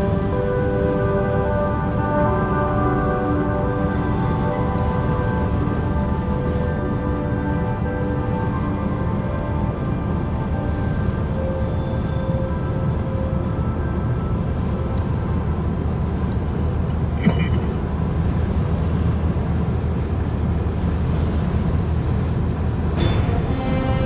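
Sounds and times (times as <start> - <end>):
car road noise inside cabin: 0.0 - 24.0.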